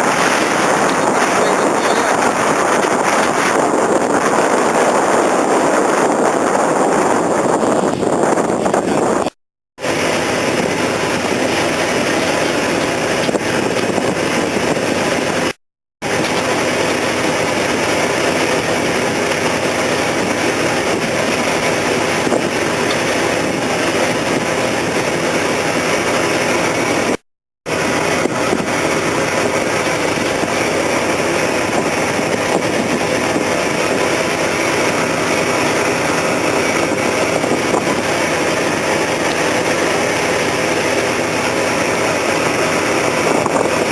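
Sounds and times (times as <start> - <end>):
loud engine noise: 0.0 - 43.9.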